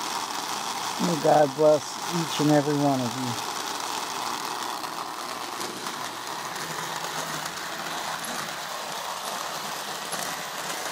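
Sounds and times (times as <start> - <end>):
toy train motor whirring: 0.0 - 10.9.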